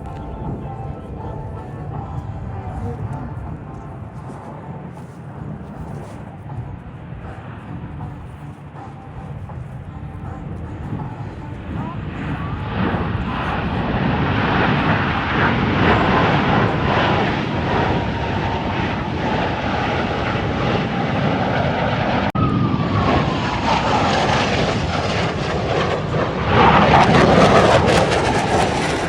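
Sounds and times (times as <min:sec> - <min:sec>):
airplane flying past: 0:00.0 - 0:29.0
falling whine: 0:00.0 - 0:29.0.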